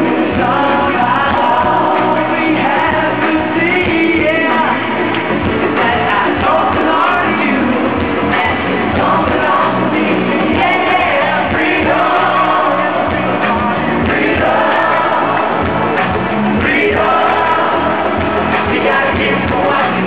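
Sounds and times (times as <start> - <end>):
live pop band with male singer: 0.0 - 20.0.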